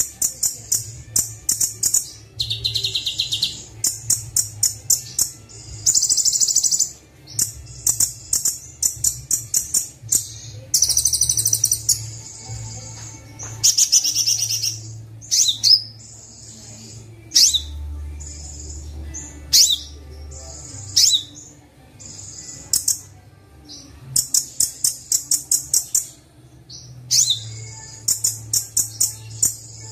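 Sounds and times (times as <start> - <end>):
sunbird chirps and trills: 0.0 - 29.9.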